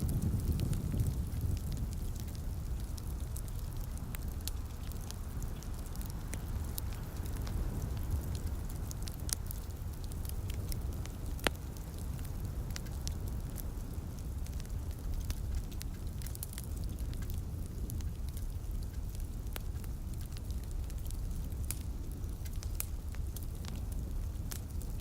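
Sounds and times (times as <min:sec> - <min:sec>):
soft rain: 0:00.0 - 0:25.0
steady low rumble: 0:00.0 - 0:25.0
wood fire crackling and popping: 0:00.0 - 0:25.0.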